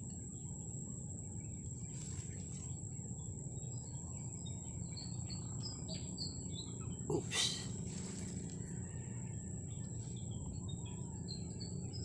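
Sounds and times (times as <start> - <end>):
insects trilling: 0.0 - 12.0
bird chirping: 1.4 - 12.0.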